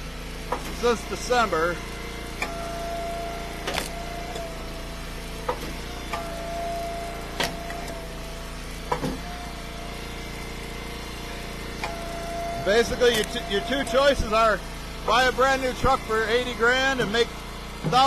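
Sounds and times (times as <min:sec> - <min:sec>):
hydraulic wood splitter whining: 0:00.0 - 0:18.0.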